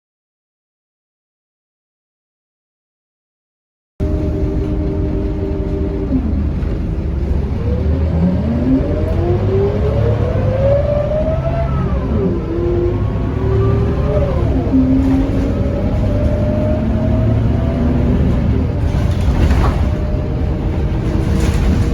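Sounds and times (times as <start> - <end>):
diesel engine droning: 4.0 - 21.9
gearbox whining: 4.0 - 21.9.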